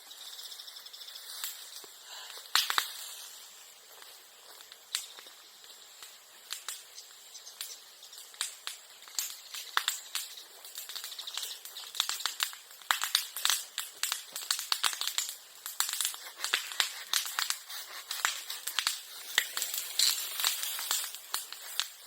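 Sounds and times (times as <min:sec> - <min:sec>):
bonfire crackling and popping: 0:00.2 - 0:22.0.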